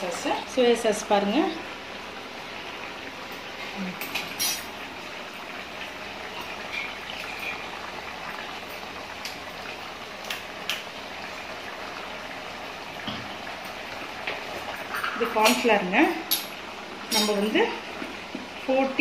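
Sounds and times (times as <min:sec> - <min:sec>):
gravy bubbling in a pot: 0:00.0 - 0:19.0.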